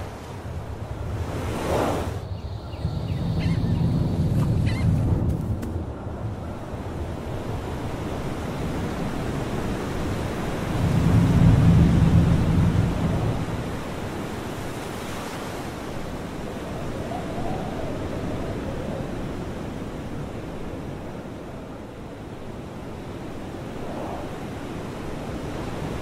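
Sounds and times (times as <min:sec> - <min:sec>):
waves breaking on shore: 0:00.0 - 0:26.0.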